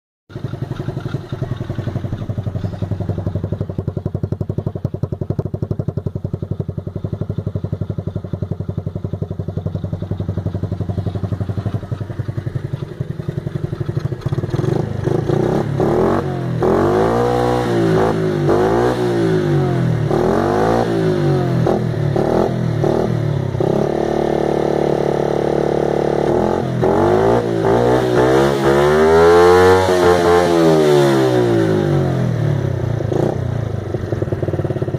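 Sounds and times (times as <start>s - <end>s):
engine idling and revving: 0.3s - 34.9s.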